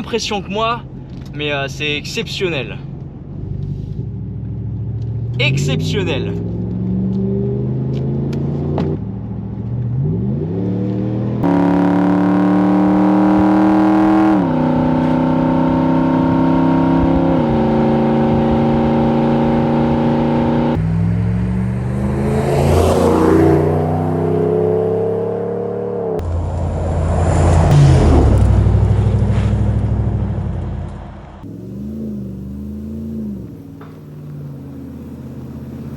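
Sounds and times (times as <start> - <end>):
truck engine accelerating: 0.7 - 35.9.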